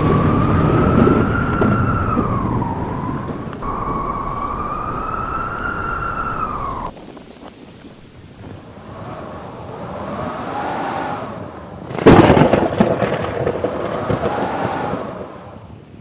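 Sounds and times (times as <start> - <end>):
low storm rumble: 0.0 - 16.0
wind howling and whistling: 0.0 - 16.0.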